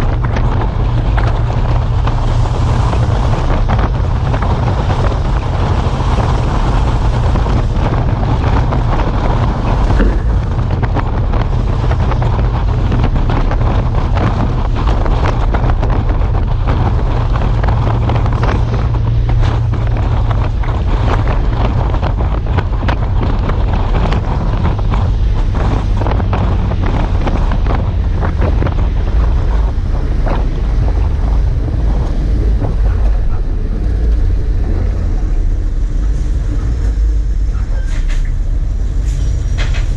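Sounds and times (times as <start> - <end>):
truck engine rumbling: 0.0 - 39.9
wind buffeting microphone: 0.0 - 39.9.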